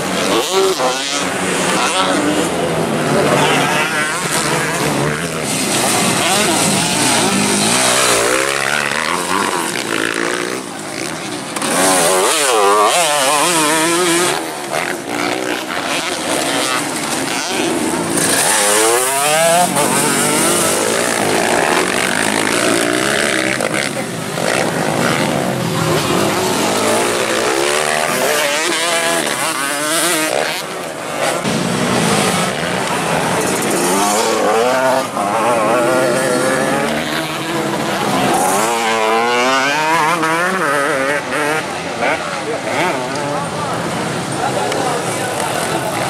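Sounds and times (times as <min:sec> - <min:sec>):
race motorcycles revving: 0:00.0 - 0:46.0.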